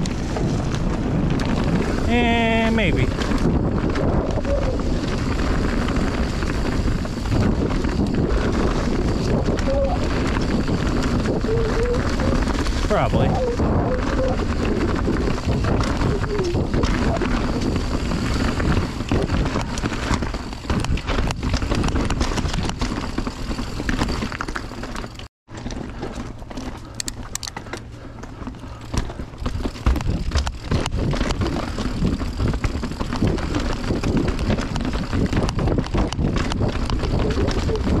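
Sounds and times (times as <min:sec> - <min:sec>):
bike knocking and rattling: 0:00.0 - 0:38.0
bike tyres rolling on dirt: 0:00.0 - 0:38.0.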